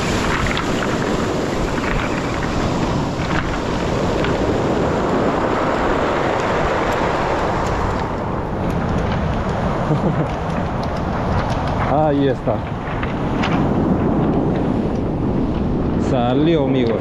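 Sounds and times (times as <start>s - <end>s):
surf on pebble beach: 0.0s - 17.0s
wind buffeting microphone: 0.0s - 17.0s.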